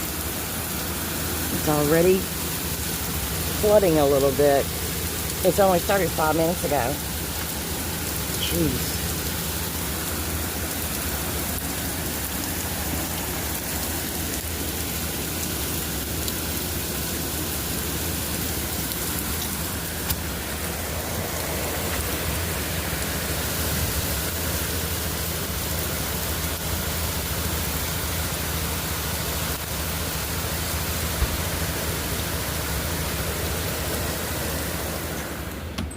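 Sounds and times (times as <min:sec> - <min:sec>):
heavy rain pouring: 0:00.0 - 0:35.8.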